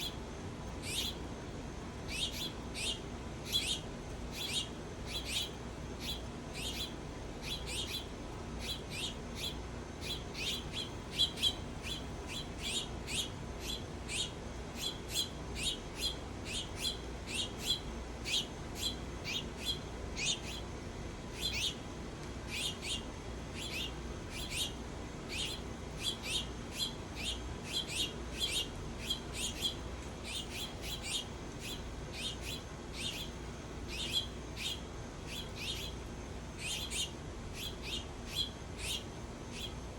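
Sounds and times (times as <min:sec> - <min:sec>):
small bird chirping: 0:00.0 - 0:00.2, 0:00.8 - 0:01.3, 0:02.0 - 0:39.9.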